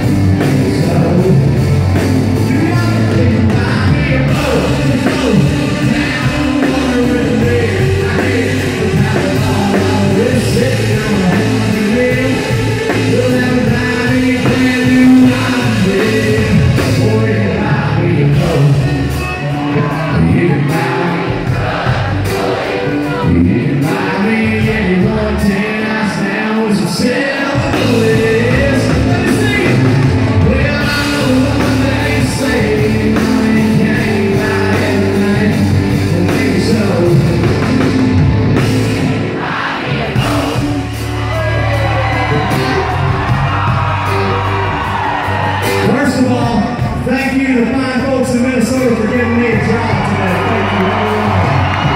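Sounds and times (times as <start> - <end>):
man singing: 0.0 - 38.0, 40.1 - 44.0, 45.8 - 51.9
drum kit: 0.0 - 51.9
guitars: 0.0 - 51.9
live country band playing: 0.0 - 51.9.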